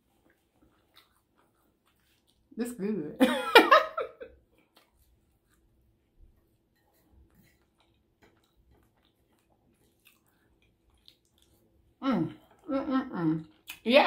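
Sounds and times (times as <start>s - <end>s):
quiet chewing: 0.0s - 2.7s, 4.3s - 14.0s.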